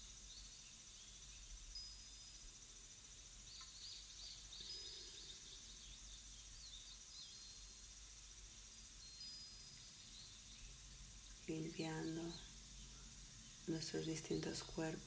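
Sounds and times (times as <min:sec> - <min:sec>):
background hiss: 0:00.0 - 0:15.0
faint birdsong chirps: 0:00.0 - 0:15.0.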